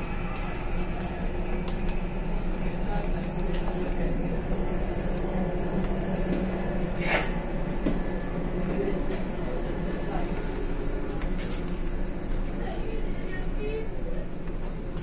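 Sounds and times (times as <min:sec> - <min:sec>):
ferry engines droning: 0:00.0 - 0:15.0.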